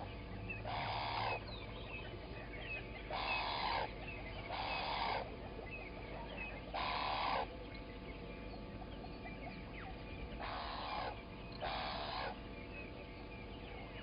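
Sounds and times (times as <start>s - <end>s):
harsh raspy bird calls: 0.0s - 7.6s, 8.9s - 14.0s.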